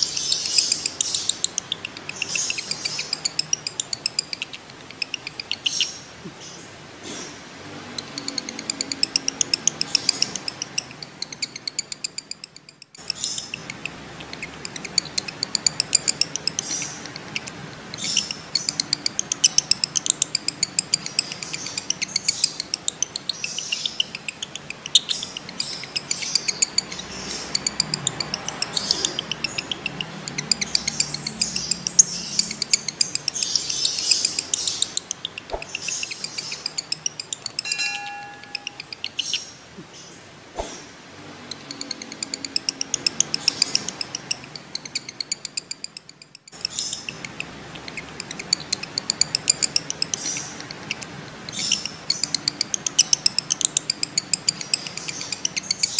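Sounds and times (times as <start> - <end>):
bird chattering call: 0.0 - 6.1, 7.9 - 39.6, 41.4 - 55.9.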